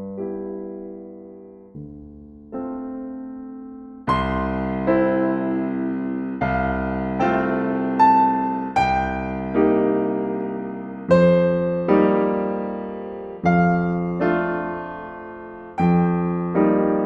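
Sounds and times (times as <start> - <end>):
slow solo piano music: 0.0 - 17.0.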